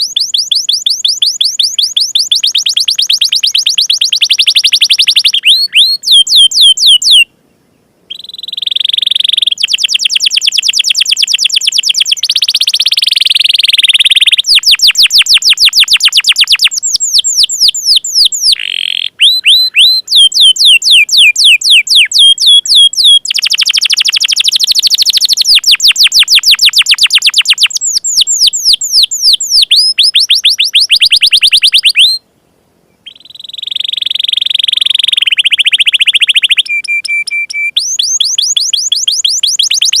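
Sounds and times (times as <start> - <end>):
canary singing trills: 0.0 - 32.2, 32.9 - 40.0.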